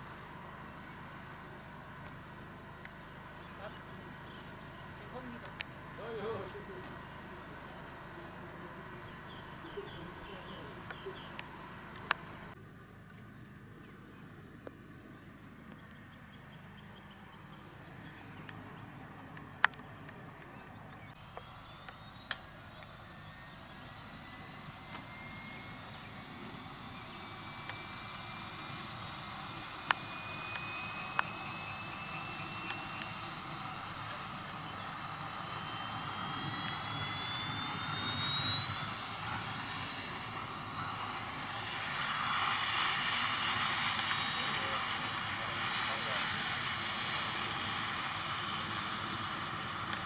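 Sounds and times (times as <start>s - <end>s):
turbine engine whine rising: 0.0s - 50.0s.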